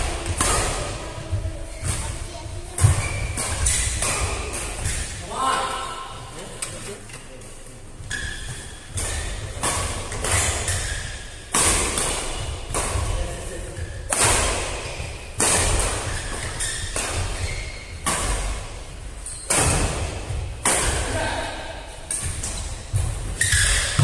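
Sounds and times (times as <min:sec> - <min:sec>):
rackets hitting shuttlecock: 0:00.1 - 0:01.2, 0:01.8 - 0:05.8, 0:08.4 - 0:21.4, 0:22.0 - 0:24.0.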